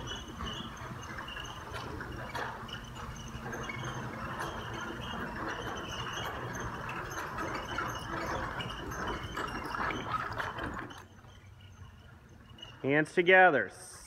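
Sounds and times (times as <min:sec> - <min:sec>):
carriage wheels and harness rattling: 0:00.0 - 0:14.0.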